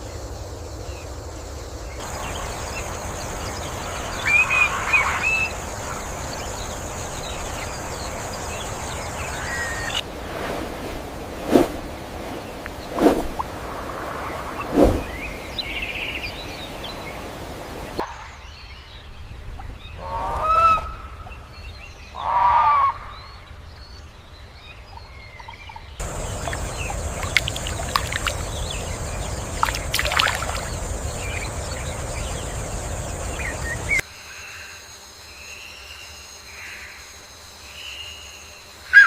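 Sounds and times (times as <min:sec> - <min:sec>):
rainforest hiss: 0:00.0 - 0:18.7, 0:26.0 - 0:39.0.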